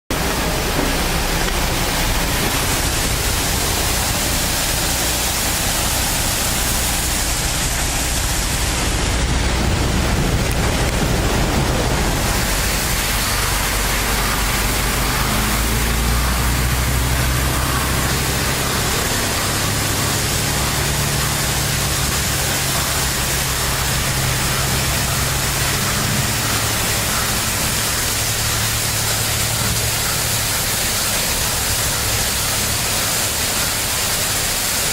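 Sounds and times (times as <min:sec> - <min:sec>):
low engine hum: 0:00.1 - 0:33.6
pressure washer spraying water: 0:00.2 - 0:34.9.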